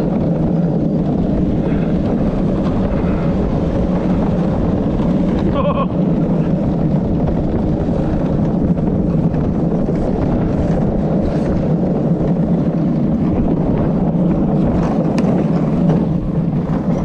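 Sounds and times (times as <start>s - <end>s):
wheels rumbling on asphalt: 0.0s - 17.0s
wind on microphone: 0.0s - 17.0s.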